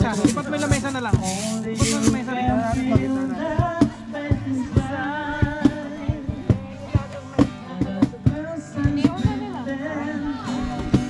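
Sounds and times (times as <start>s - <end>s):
steady drum beat: 0.0s - 9.5s
person singing: 0.0s - 11.0s.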